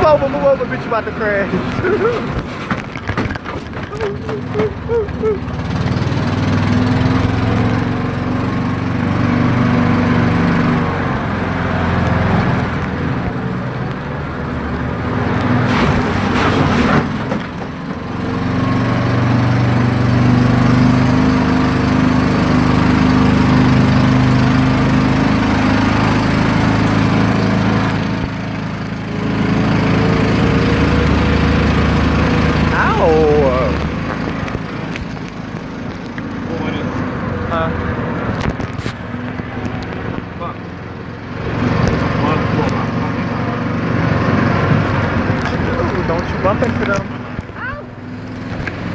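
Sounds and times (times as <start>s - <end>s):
buggy engine running: 0.0s - 48.9s.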